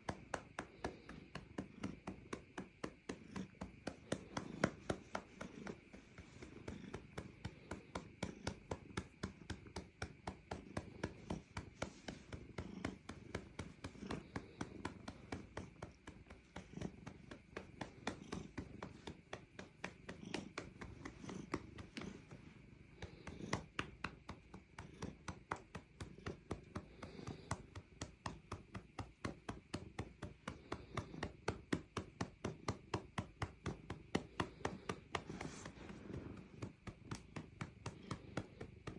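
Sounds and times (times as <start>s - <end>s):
cat purring: 0.0s - 38.9s
hand patting cat: 0.0s - 38.9s.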